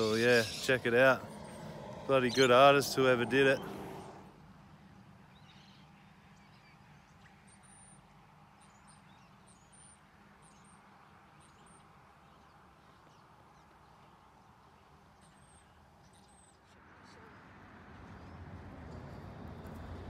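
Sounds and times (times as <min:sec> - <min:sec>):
distant small birds chirping: 0:00.0 - 0:18.6.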